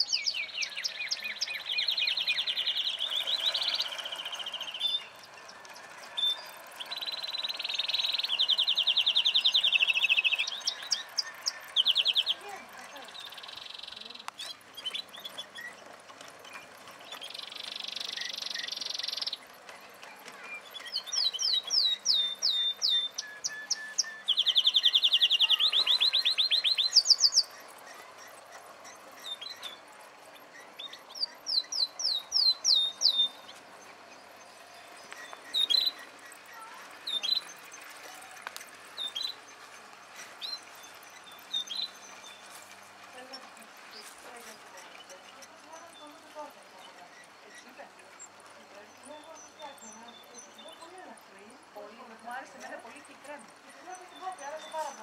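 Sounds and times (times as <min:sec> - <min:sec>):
bird chirps: 0:00.0 - 0:55.0
songbirds singing: 0:00.0 - 0:55.0.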